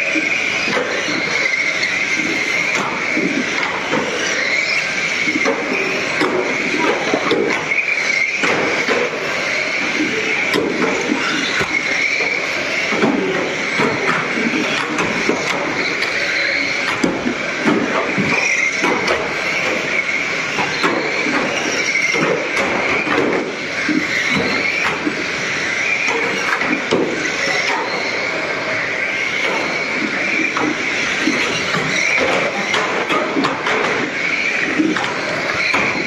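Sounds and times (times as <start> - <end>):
electric toy car motors whining: 0.0 - 36.0
toy cars hitting barriers: 0.0 - 36.0.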